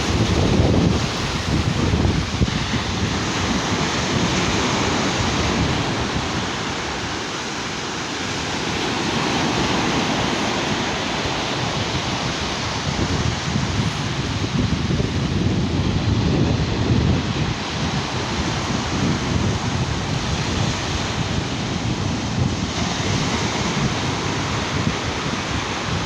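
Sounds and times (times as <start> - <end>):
sea surf washing on beach: 0.0 - 26.0
wind buffeting microphone: 0.0 - 26.0.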